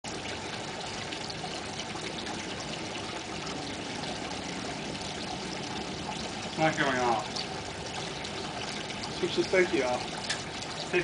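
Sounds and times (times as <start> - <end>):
outdoor background hiss: 0.1 - 11.0.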